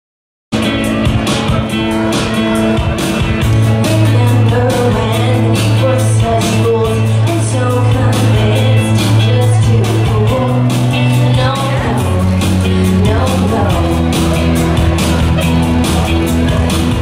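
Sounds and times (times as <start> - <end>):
music with drum beat: 0.5 - 17.0.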